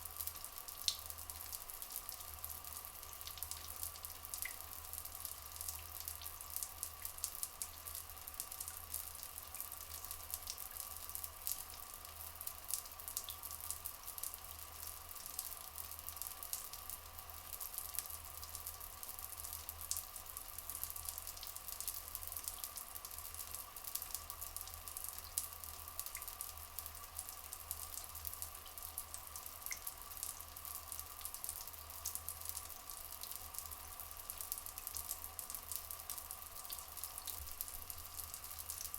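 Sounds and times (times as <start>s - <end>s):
water drips and splashes: 0.0s - 38.9s
water trickling and flowing: 0.0s - 38.9s.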